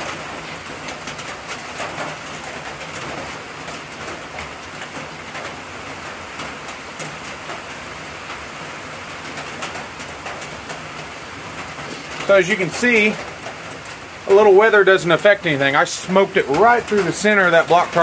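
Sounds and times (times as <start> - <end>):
rain on roof and leaves: 0.0 - 18.0.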